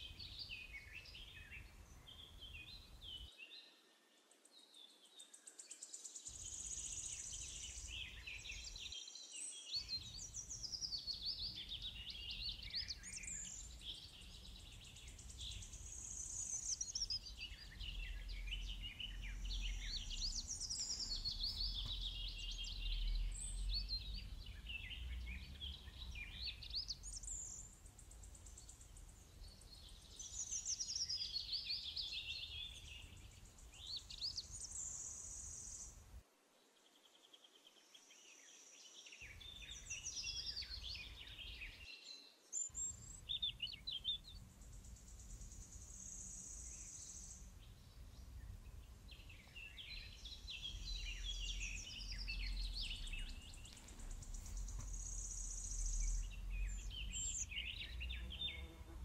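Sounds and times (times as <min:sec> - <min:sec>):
birds chirping and trilling: 0:06.4 - 0:36.0, 0:39.2 - 0:58.9.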